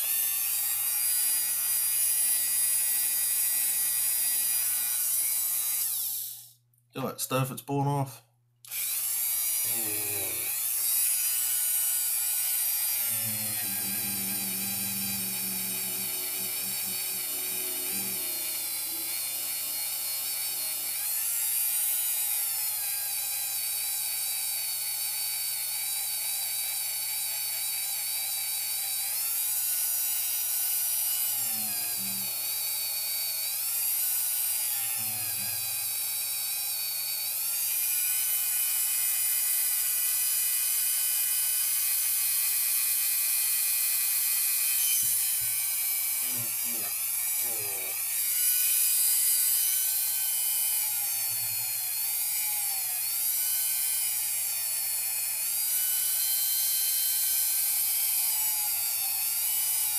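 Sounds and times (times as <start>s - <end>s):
rotary tool whining: 0.0s - 6.6s, 8.6s - 59.9s.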